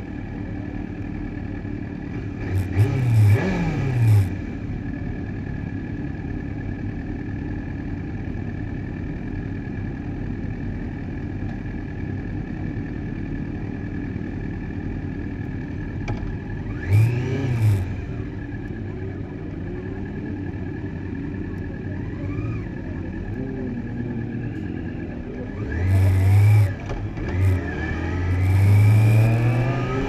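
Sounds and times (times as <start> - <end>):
motorcycle engine idling: 0.0 - 2.4, 4.3 - 17.0, 17.9 - 27.3.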